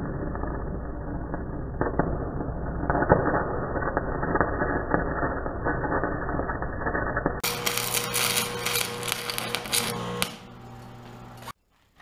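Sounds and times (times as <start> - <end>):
welding arc crackling and popping: 0.0 - 11.6.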